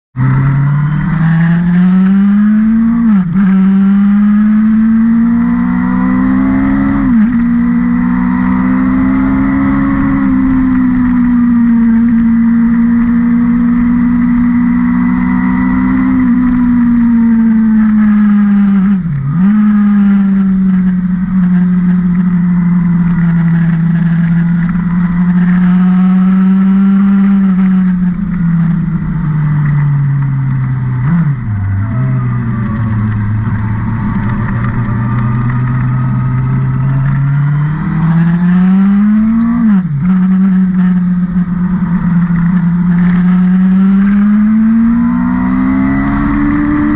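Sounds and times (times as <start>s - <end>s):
race car engine revving: 0.2s - 46.9s.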